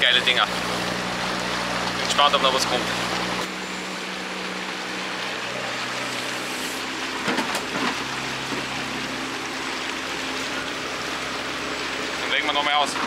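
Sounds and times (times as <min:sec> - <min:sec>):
motorboat engine running: 0:00.0 - 0:13.0
water rushing: 0:00.0 - 0:13.0
wind: 0:00.0 - 0:13.0.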